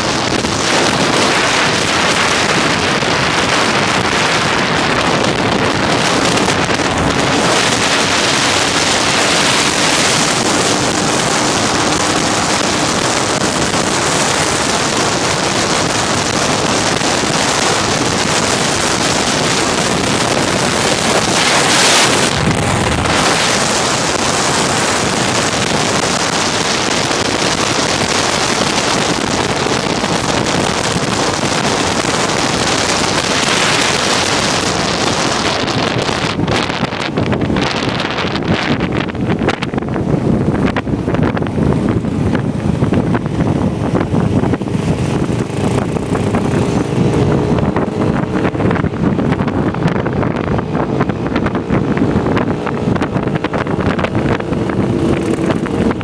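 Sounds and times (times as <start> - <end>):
motorcycle engine running: 0.0 - 56.0
wind rushing on microphone: 0.0 - 56.0.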